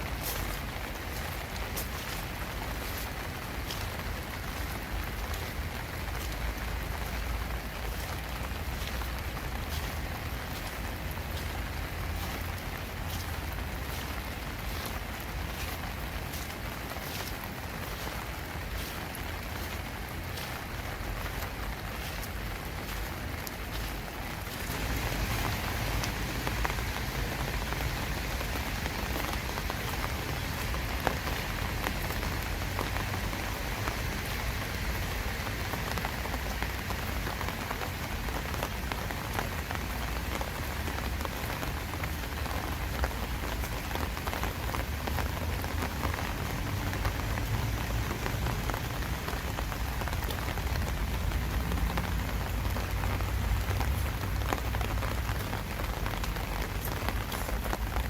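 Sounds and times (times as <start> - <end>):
rain falling: 0.0 - 58.0
raindrops tapping: 0.0 - 58.0.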